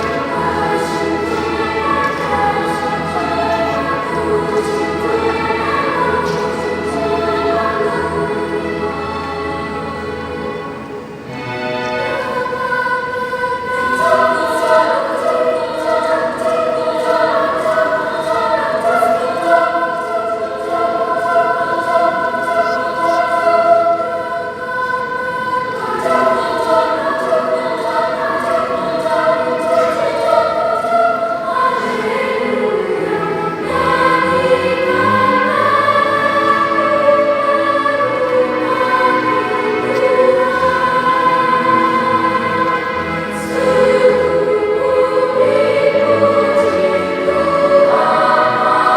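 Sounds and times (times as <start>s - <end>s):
children's choir singing: 0.0s - 48.9s.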